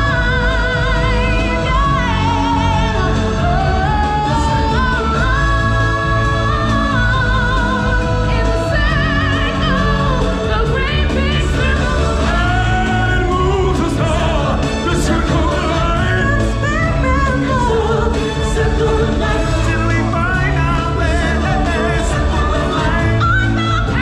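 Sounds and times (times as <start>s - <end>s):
loud backing track: 0.0s - 24.0s.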